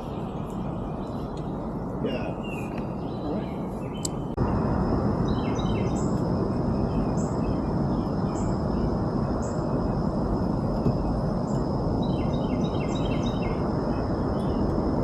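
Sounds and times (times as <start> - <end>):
birds chirping: 0.0 - 4.6, 5.2 - 10.0, 10.6 - 14.7.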